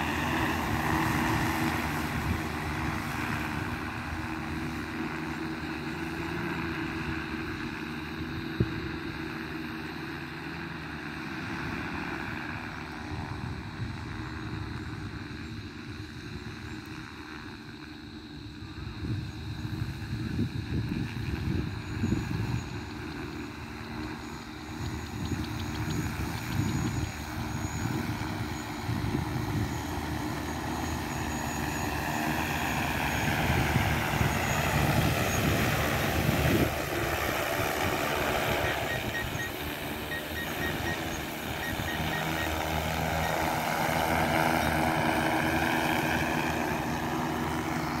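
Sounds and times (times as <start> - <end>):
drone rotors humming: 0.0 - 48.0.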